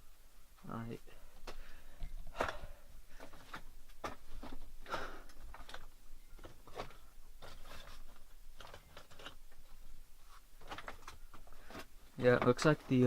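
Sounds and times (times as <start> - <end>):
irregular crunches and scrapes: 1.4 - 13.0.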